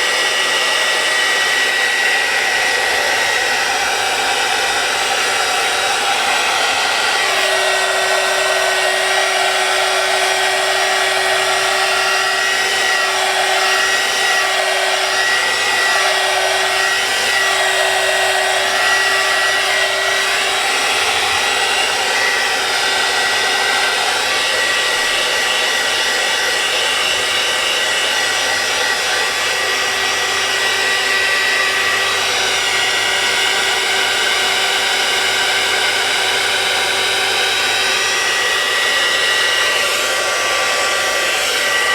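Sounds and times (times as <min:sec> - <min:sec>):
heat tool blowing hot air: 0:00.0 - 0:41.9.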